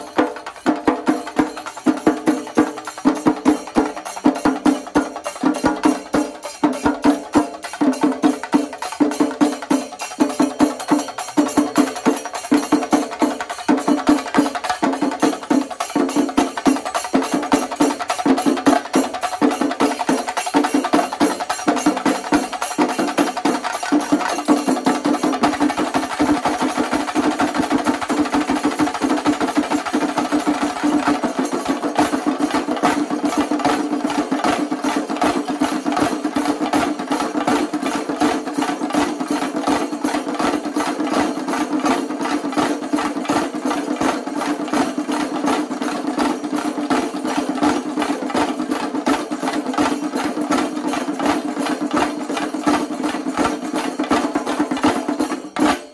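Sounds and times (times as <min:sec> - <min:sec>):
drums beaten with sticks: 0:00.0 - 0:55.9.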